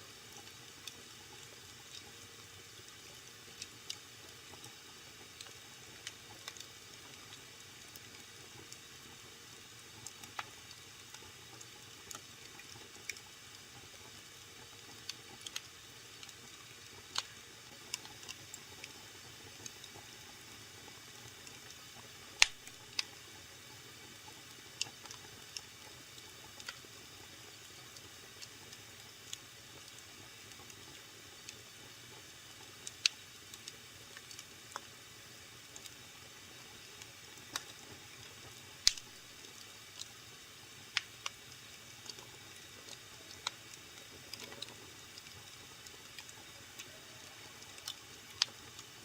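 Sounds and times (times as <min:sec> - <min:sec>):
wood fire crackling and popping: 0:00.3 - 0:09.2, 0:09.8 - 0:35.0, 0:35.6 - 0:49.0.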